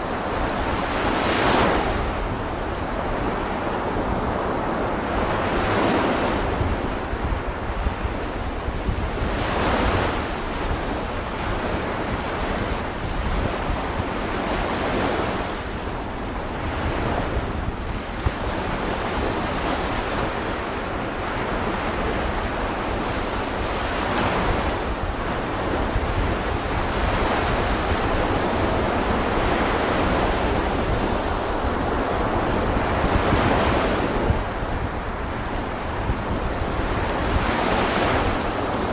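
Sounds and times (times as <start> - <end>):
sea waves washing in: 0.0 - 38.9
wind buffeting microphone: 0.0 - 38.9.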